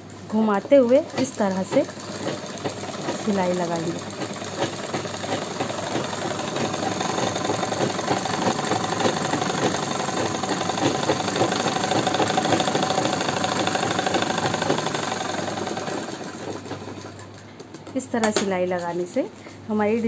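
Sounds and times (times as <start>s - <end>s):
sewing machine stitching: 0.0s - 17.4s.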